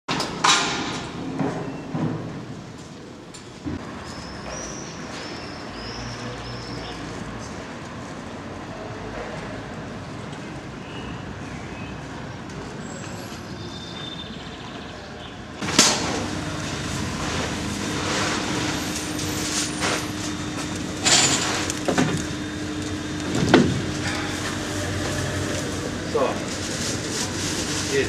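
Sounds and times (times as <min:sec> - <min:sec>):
street background noise: 0:00.1 - 0:28.0.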